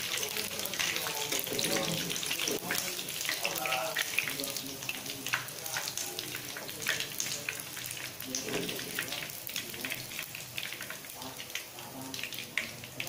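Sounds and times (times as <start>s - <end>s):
frying oil crackling and sizzling: 0.0s - 13.0s.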